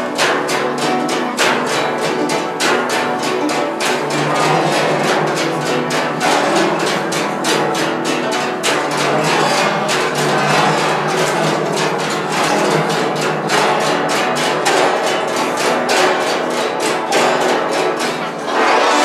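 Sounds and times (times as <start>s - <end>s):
zithers plucking fast notes: 0.0s - 19.0s.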